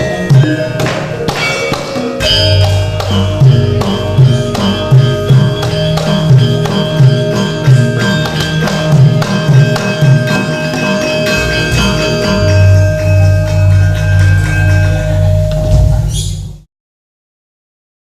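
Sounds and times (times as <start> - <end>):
deep sustained gong: 0.0 - 16.0
metallophone ringing: 0.0 - 16.2
hand drum strokes: 0.0 - 16.4.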